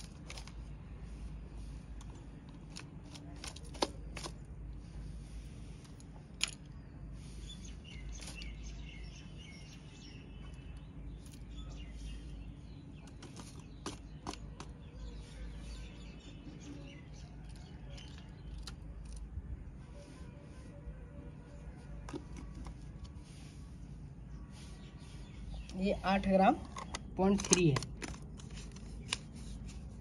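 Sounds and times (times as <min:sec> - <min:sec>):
birds chirping faintly: 0:00.0 - 0:30.0.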